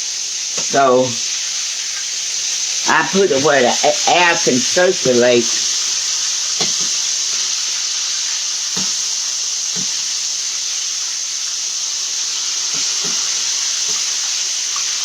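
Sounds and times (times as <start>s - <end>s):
chicken frying in hot oil: 0.0s - 15.0s
oil popping: 0.6s - 15.0s.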